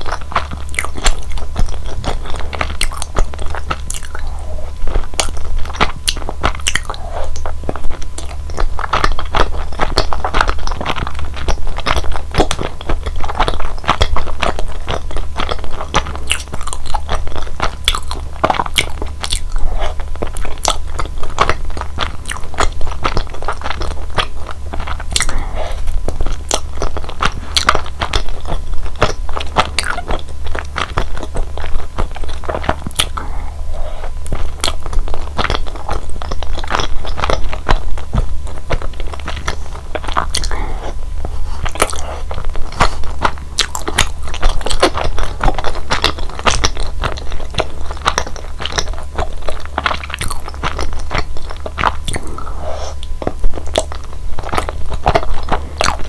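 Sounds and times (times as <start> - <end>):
close chewing with wet mouth clicks: 0.0 - 56.0
low steady hum: 0.0 - 56.0.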